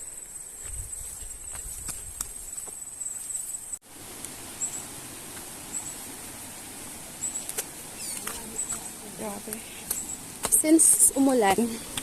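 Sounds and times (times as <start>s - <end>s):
forest ambience hiss: 0.0s - 12.0s
insects chirping: 0.0s - 12.0s.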